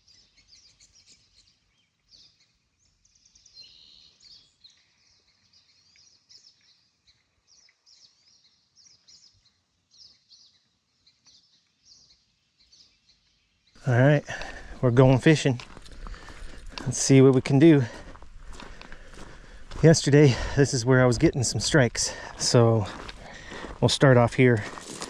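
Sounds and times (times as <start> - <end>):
small birds chirping and trilling: 0.0 - 25.0.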